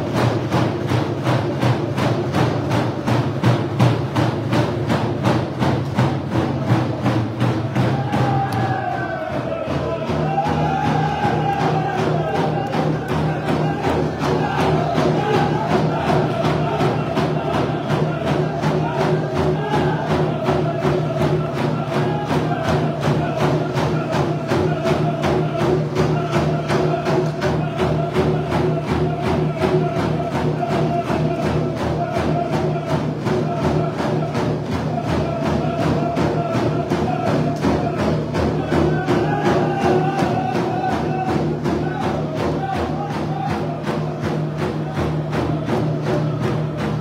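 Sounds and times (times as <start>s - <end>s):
frame drums beating: 0.0s - 47.0s
group singing a chant: 0.0s - 47.0s.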